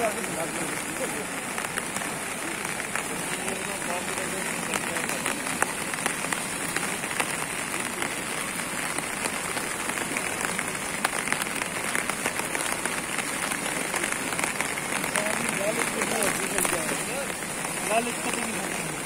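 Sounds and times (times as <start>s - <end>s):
fast-flowing river rushing: 0.0s - 19.0s
rain falling: 0.0s - 19.0s
raindrop ticks: 0.0s - 19.0s.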